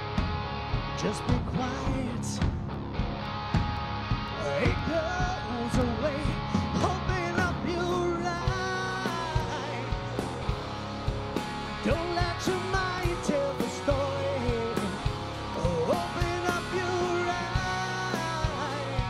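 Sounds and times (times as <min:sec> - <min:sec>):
drum kit: 0:00.0 - 0:19.0
electric bass: 0:00.0 - 0:19.0
melodic guitar or voice line: 0:00.0 - 0:19.0.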